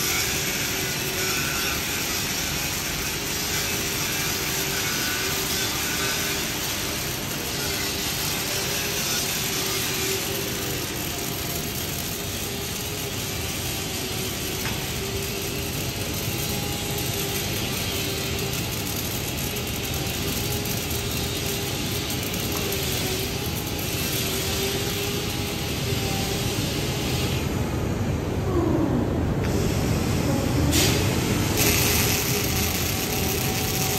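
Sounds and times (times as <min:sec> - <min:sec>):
welding arc crackling buzz: 0:00.0 - 0:28.4, 0:29.4 - 0:33.9
constant hum: 0:00.0 - 0:33.9.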